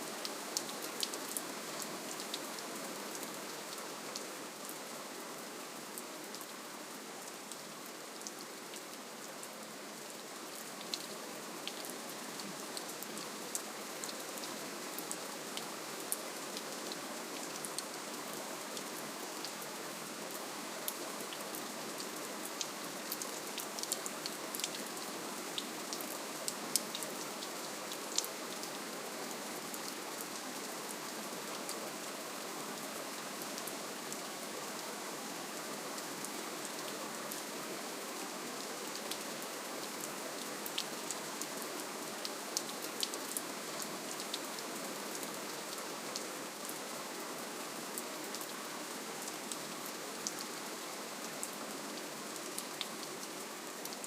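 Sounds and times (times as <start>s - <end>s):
soft rainfall: 0.0s - 54.0s.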